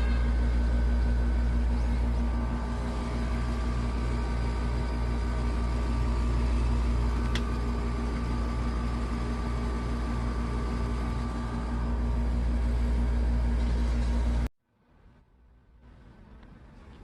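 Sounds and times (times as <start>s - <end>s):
air conditioner unit humming: 0.0s - 14.5s.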